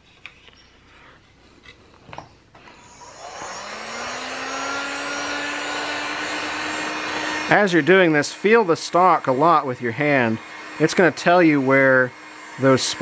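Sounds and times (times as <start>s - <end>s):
heat gun fan whirring: 1.6s - 13.0s.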